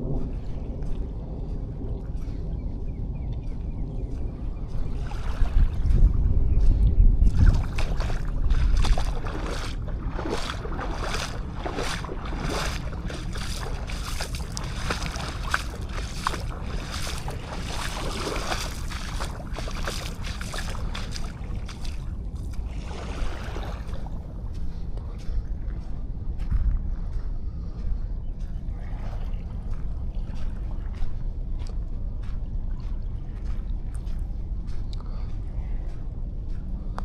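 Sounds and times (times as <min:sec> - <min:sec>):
footsteps on sand: 0:00.0 - 0:37.0
wind buffeting microphone: 0:00.0 - 0:37.0.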